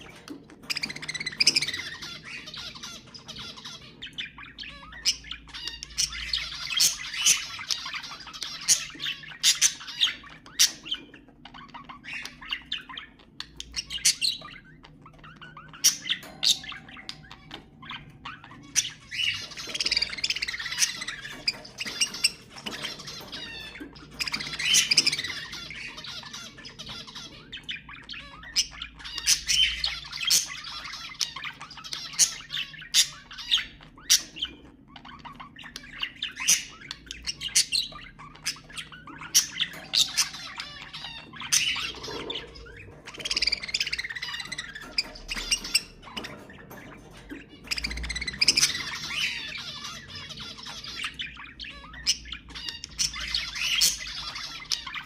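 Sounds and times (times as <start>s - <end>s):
budgerigar chirps and squawks: 0.0s - 55.0s
budgerigars chattering and warbling: 0.0s - 55.0s.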